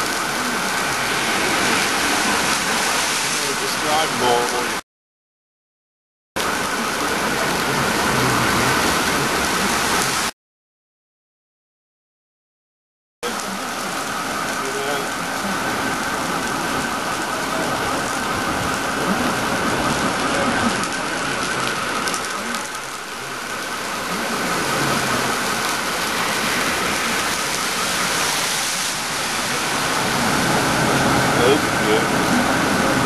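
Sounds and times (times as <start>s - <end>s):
heavy rain pouring on street: 0.0s - 4.8s, 6.4s - 10.4s, 13.2s - 33.0s.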